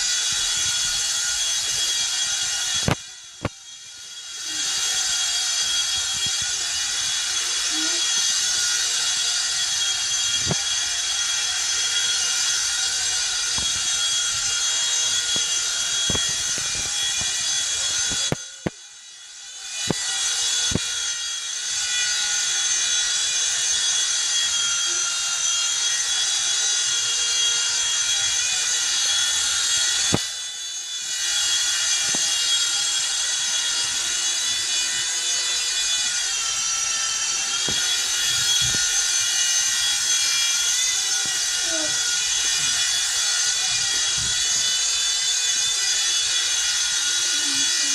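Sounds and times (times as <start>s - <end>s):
rc helicopter motor whine: 0.0s - 47.9s.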